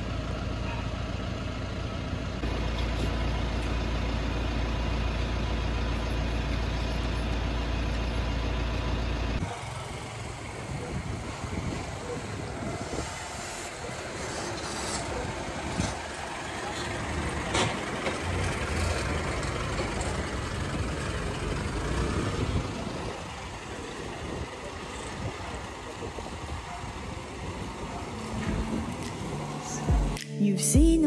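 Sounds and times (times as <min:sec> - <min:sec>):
outdoor noise: 0:00.0 - 0:31.0
vehicle engine rumbling: 0:00.0 - 0:31.0.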